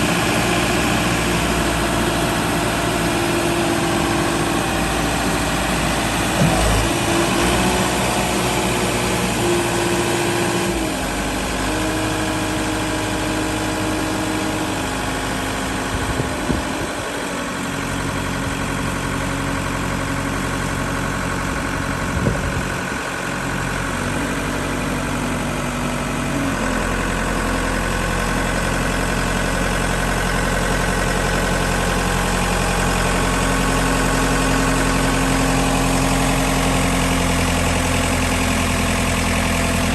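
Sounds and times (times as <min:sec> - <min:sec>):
construction machine engine idling: 0:00.0 - 0:39.9.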